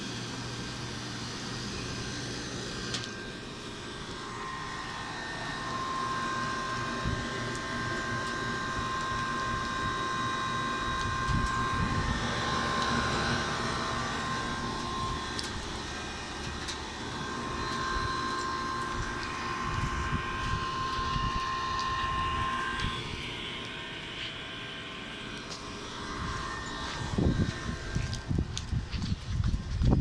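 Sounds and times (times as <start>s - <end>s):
condenser fans rushing: 0.0s - 30.0s
low compressor hum: 0.0s - 30.0s
thin steady whine: 0.0s - 30.0s.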